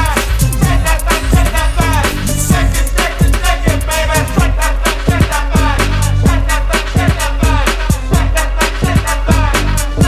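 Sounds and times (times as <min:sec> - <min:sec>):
deep booming bass: 0:00.0 - 0:10.0
drum machine beat: 0:00.0 - 0:10.0.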